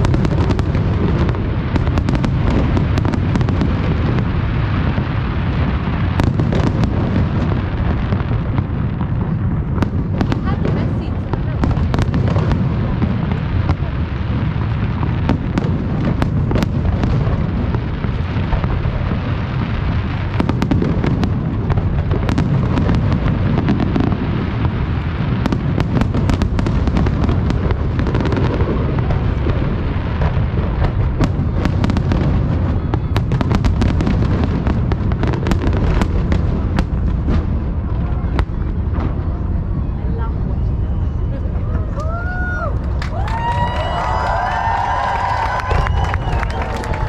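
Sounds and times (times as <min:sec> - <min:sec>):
firework shells booming: 0:00.0 - 0:41.0
firework crackles and pops: 0:00.0 - 0:47.0.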